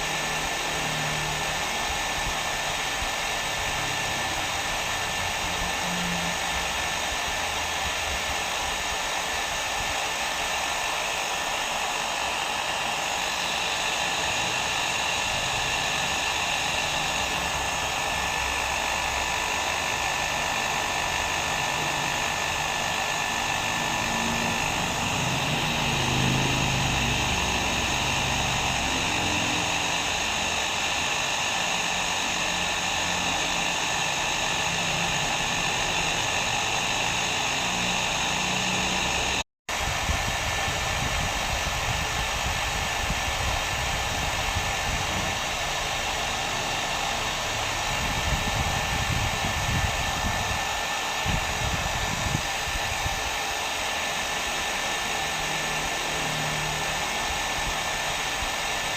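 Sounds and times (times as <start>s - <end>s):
hair dryer blowing: 0.0s - 58.9s.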